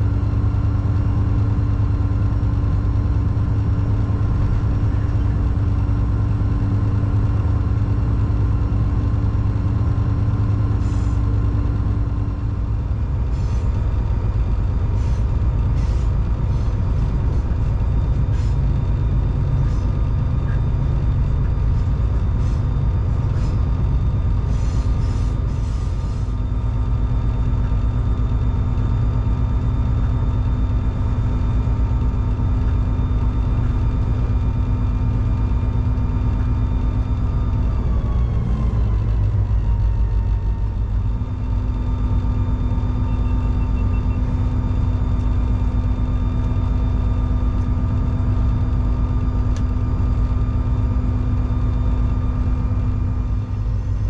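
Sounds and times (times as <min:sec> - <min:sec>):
diesel locomotive engine running: 0:00.0 - 0:54.0
wheels rumbling on rail: 0:00.0 - 0:54.0.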